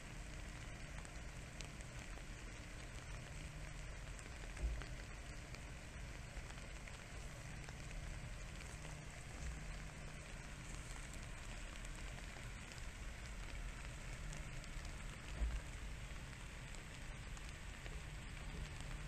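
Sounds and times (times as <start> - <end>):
low rumble on microphone: 0.1 - 19.0.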